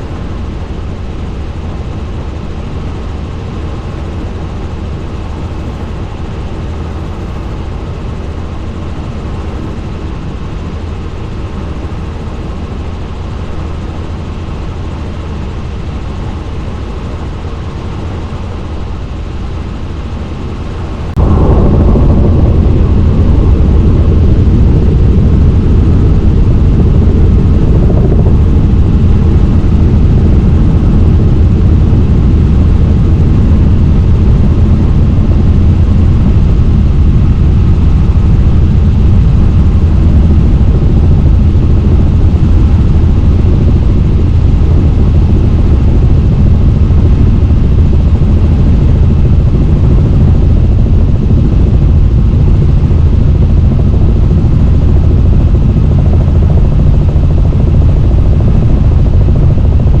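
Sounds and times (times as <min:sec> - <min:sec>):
helicopter rotor drone: 0:00.0 - 1:00.0.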